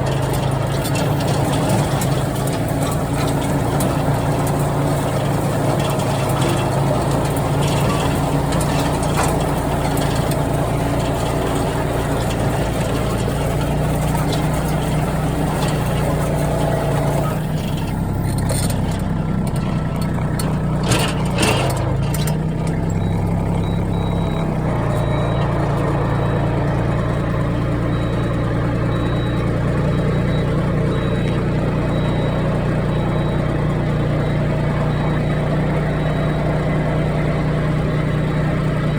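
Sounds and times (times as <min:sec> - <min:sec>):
engine running: 0:00.0 - 0:38.9
rotary tiller abnormal noise: 0:00.0 - 0:38.9.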